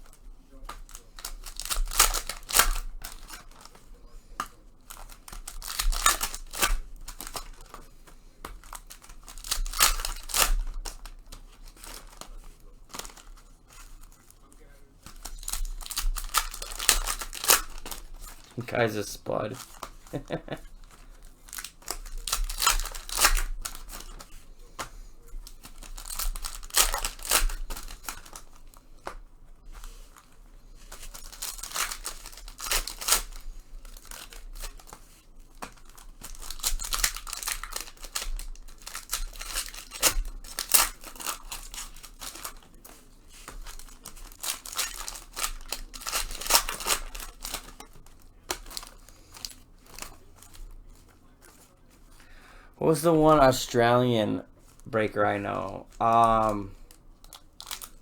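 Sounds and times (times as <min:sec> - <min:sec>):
card pack wrappers tearing and crinkling: 0:00.0 - 0:29.2, 0:29.8 - 0:52.2, 0:52.9 - 0:58.0.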